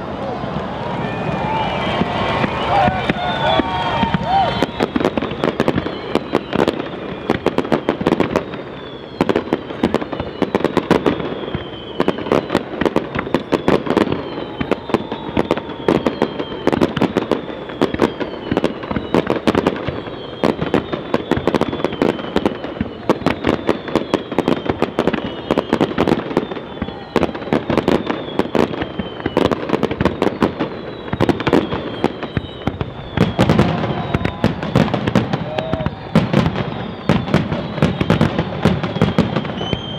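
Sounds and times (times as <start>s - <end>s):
firework bursts and bangs: 0.0s - 39.9s
firework whistles falling in pitch: 0.5s - 39.9s.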